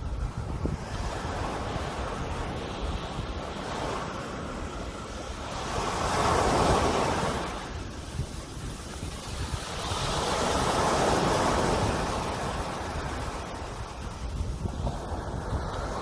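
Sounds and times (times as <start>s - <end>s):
sea waves washing ashore: 0.0s - 16.0s
wind rumble on microphone: 0.0s - 16.0s.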